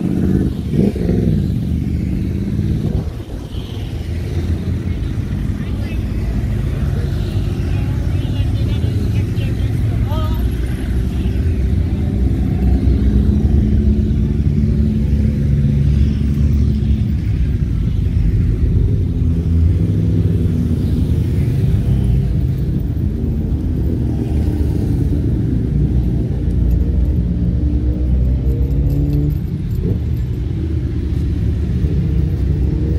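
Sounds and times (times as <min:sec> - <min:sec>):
motorbikes riding past: 0:00.0 - 0:32.9.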